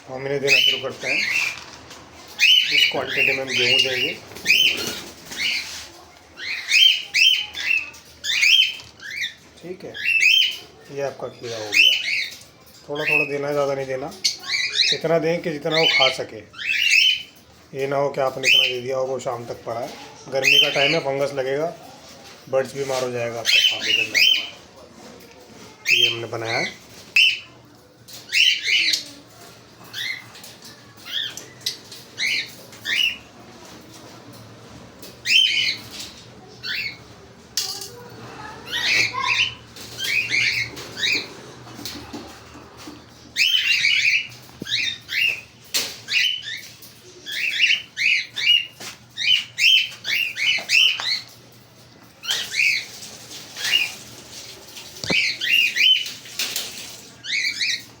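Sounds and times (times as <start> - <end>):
parrots chirping and squawking: 0.0 - 58.0.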